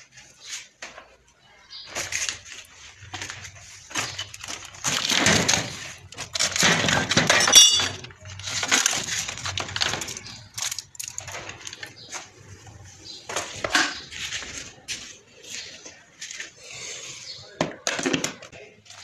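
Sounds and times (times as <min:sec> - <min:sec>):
plastic parts clattering and scraping: 0:00.0 - 0:16.6, 0:17.2 - 0:19.0.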